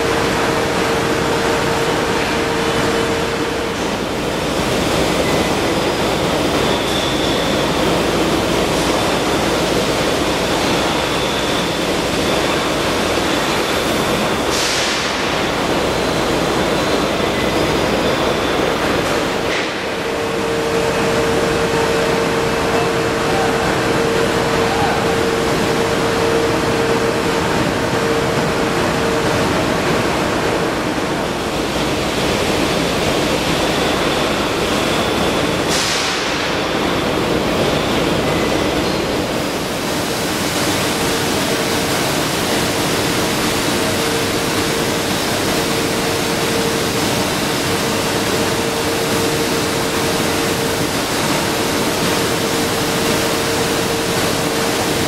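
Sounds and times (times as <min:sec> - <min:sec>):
hiss-like industrial roar: 0:00.0 - 0:55.0
steady humming tone: 0:00.0 - 0:55.0.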